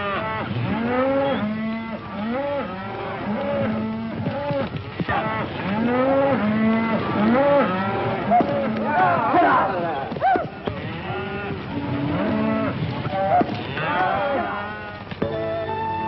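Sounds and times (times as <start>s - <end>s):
cattle bawling and mooing: 0.0s - 15.0s.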